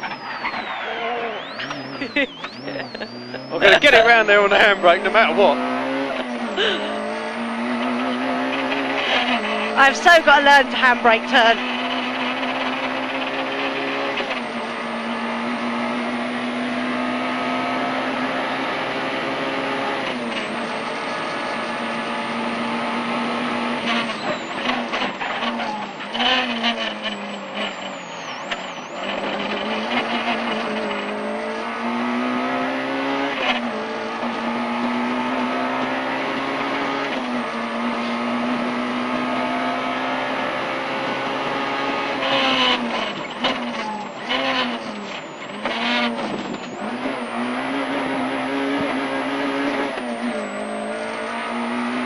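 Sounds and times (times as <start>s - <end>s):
car engine revving hard: 0.0s - 52.0s.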